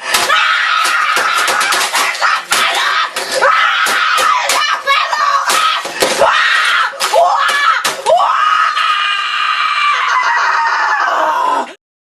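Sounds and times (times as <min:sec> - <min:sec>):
boy screaming: 0:00.2 - 0:11.7.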